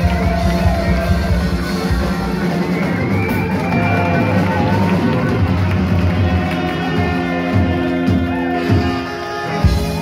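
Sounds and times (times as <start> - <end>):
heavy low drum beats: 0.0 - 10.0
live band playing: 0.0 - 10.0.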